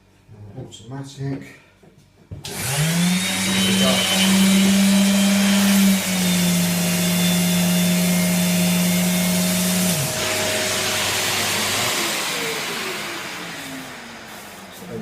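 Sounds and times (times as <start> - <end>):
dust extractor air rush: 2.5 - 15.0
electric sander motor hum: 2.5 - 15.0.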